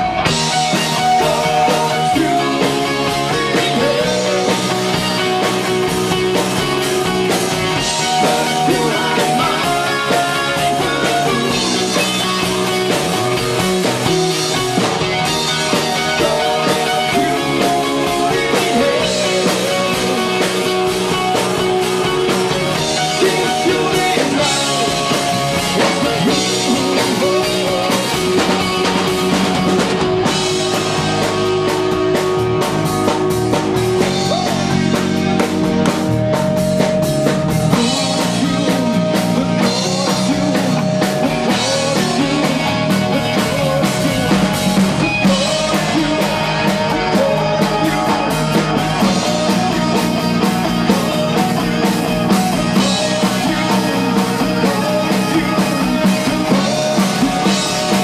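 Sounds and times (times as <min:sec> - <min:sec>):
person singing: 0:00.0 - 0:06.0, 0:07.8 - 0:14.5, 0:15.2 - 0:29.8, 0:36.9 - 0:58.0
bass guitar: 0:00.0 - 0:58.0
drum kit beat: 0:00.0 - 0:58.0.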